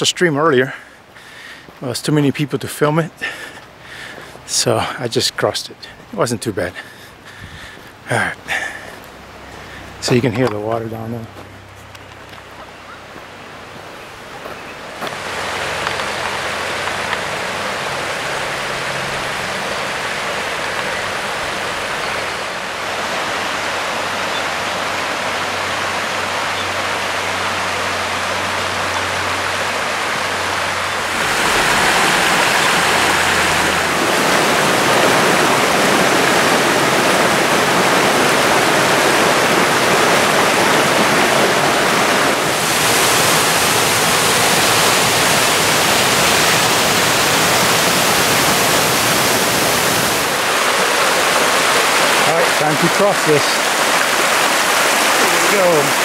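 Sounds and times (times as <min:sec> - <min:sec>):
creek rushing over rocks: 0:00.0 - 0:56.0.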